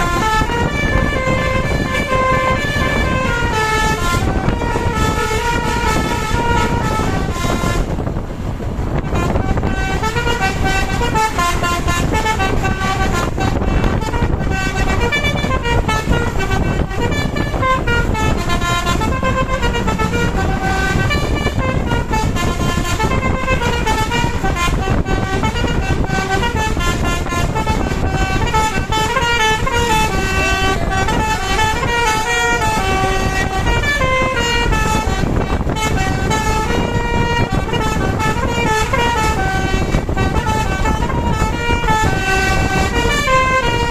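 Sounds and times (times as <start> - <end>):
low rumble: 0.0 - 43.6
bus horn melody: 0.0 - 43.9.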